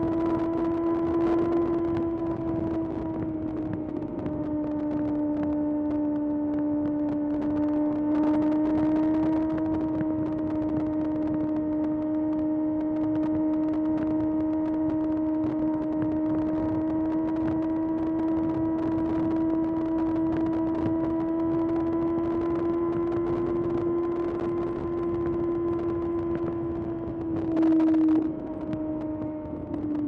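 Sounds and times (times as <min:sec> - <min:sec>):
motorcycle engine running high: 0:00.0 - 0:30.0.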